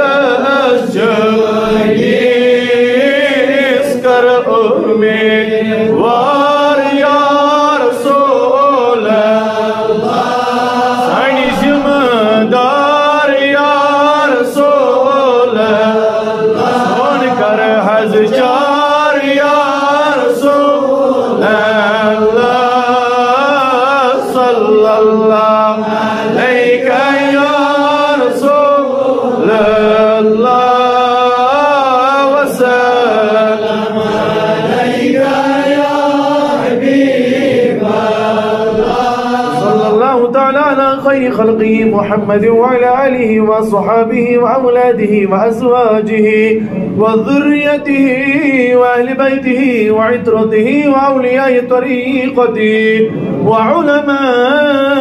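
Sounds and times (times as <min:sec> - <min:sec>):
men chanting in layered voices: 0:00.0 - 0:55.0.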